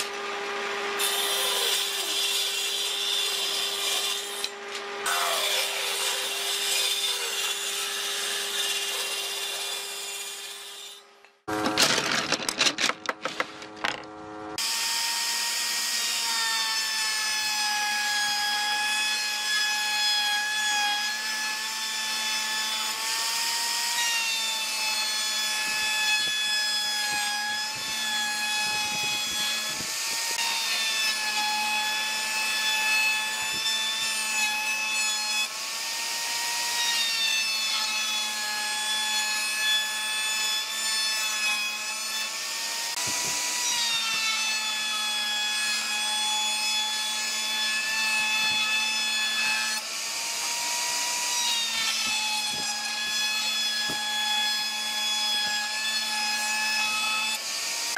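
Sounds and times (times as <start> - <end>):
router whining cutting wood: 0.0 - 57.9.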